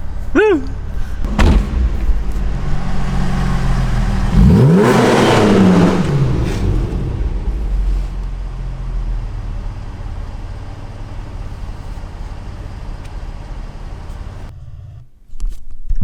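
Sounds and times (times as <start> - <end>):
car engine low rumble: 0.0 - 15.4.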